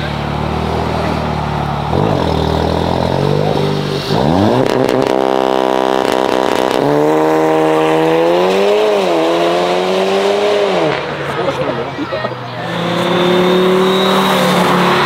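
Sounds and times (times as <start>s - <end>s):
car engine revving hard: 0.0s - 11.4s, 12.6s - 15.0s.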